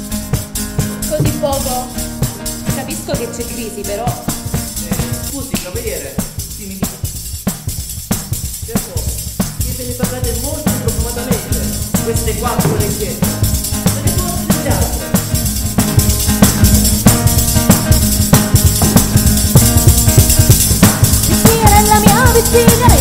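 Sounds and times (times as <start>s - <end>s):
frame drum with jingles: 0.0s - 23.0s.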